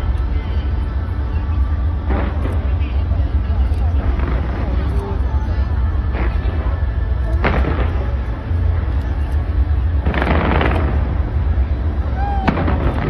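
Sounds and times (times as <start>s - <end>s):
fireworks crackling: 0.0s - 13.0s
fireworks rumbling: 0.0s - 13.0s.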